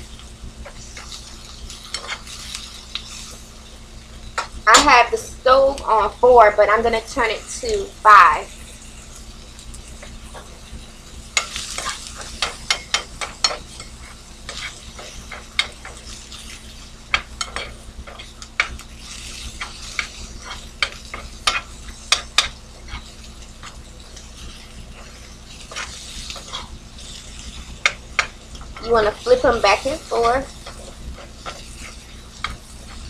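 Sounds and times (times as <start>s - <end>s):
onions sizzling in a skillet: 0.0s - 33.0s
utensil scraping a pan: 0.6s - 3.6s, 8.6s - 33.0s.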